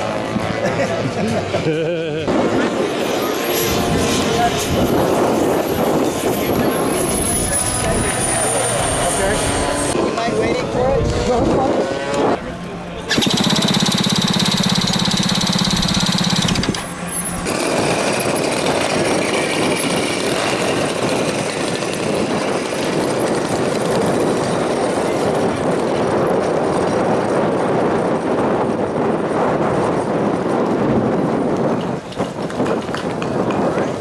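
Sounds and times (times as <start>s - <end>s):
rough engine drone: 0.0s - 30.5s
model aircraft engine: 0.0s - 34.0s.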